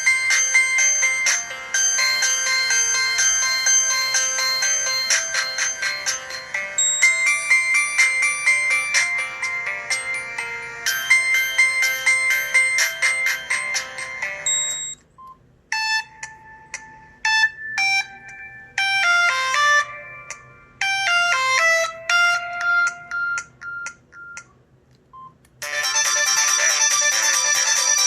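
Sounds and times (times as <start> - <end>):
electronic ringtone melody: 0.0 - 15.0, 15.7 - 24.5, 25.6 - 28.0.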